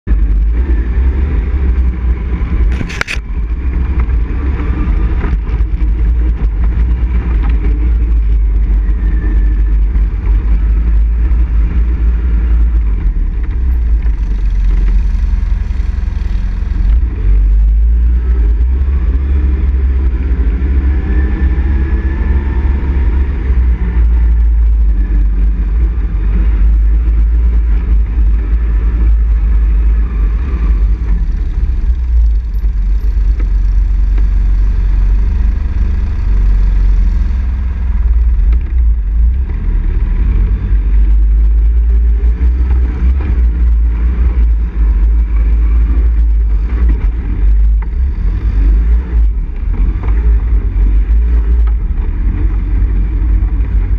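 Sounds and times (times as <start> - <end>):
heavy low rumble: 0.0 - 53.9
quad bike engine: 0.0 - 53.9.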